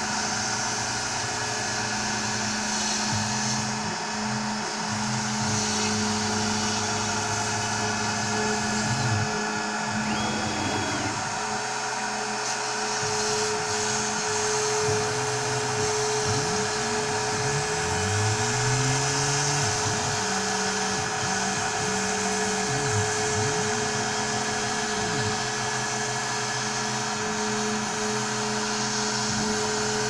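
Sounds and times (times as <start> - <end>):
router spindle whining: 0.0 - 30.0
stepper motors gliding tones: 1.8 - 30.0.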